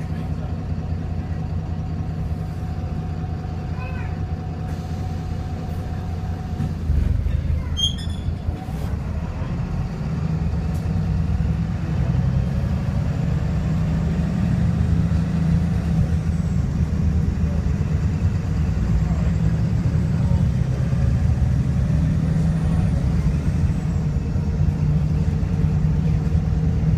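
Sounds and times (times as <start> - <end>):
bus diesel engine running: 0.0 - 26.9.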